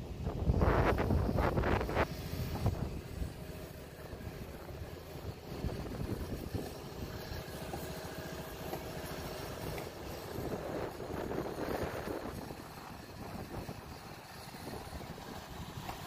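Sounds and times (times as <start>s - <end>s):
wind buffeting microphone: 0.0s - 7.6s, 9.2s - 16.0s
low engine rumble: 0.0s - 16.0s.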